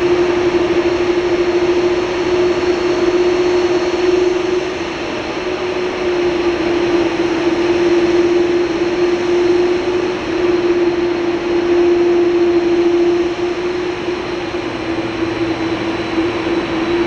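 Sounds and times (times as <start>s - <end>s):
airliner droning tone: 0.0s - 17.0s
jet engine rush: 0.0s - 17.0s.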